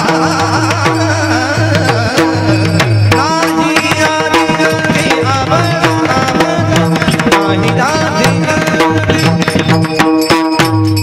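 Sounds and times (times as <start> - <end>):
drum: 0.0 - 11.0
hand cymbals struck in rhythm: 0.0 - 11.0.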